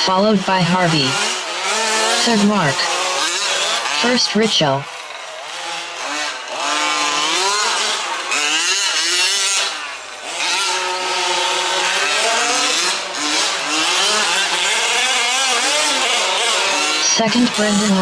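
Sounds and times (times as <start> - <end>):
rc truck engines revving: 0.0 - 18.0.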